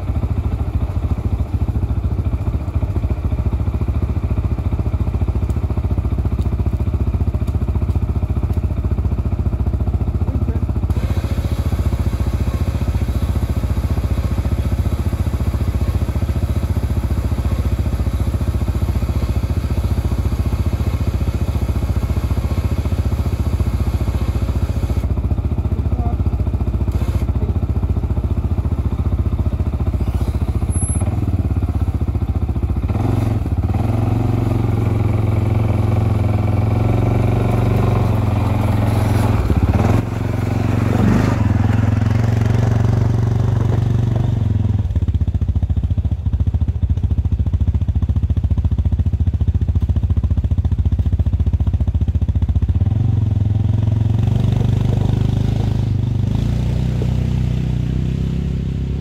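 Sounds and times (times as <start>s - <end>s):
atv engine idling: 0.0s - 59.0s.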